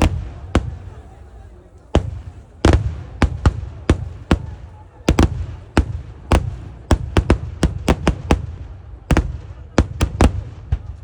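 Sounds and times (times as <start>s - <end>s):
fireworks blasts: 0.0s - 11.0s.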